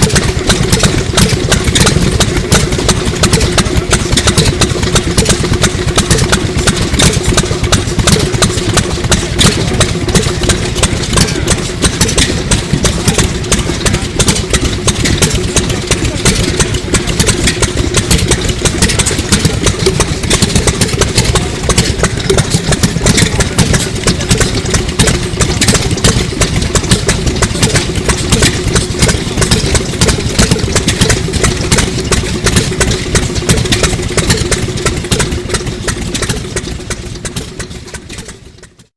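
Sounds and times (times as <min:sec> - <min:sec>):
engine hum: 0:00.0 - 0:38.9
engine knocking: 0:00.0 - 0:38.9.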